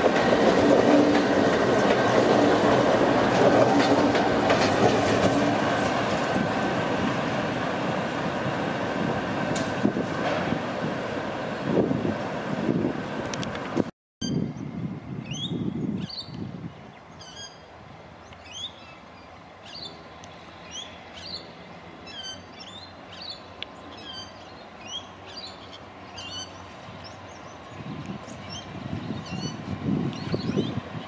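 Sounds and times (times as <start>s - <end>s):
diesel locomotive hum: 0.0s - 31.0s.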